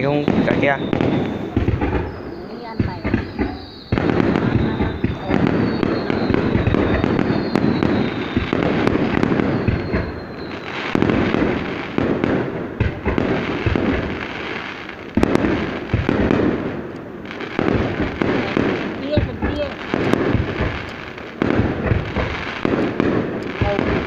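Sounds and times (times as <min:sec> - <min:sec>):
fireworks crackling and popping: 0:00.0 - 0:24.0
heavy firework bursts: 0:00.0 - 0:24.0.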